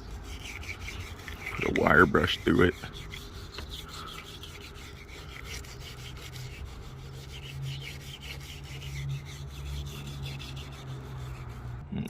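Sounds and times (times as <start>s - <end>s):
wire brush scrubbing wet grime: 0.0s - 11.8s.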